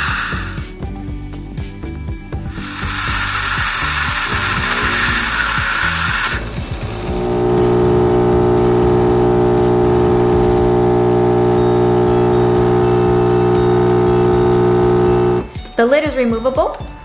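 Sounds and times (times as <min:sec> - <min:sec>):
espresso machine pump humming: 0:00.0 - 0:00.7, 0:02.4 - 0:15.5
milk frothing hiss: 0:00.0 - 0:00.8, 0:02.4 - 0:15.5.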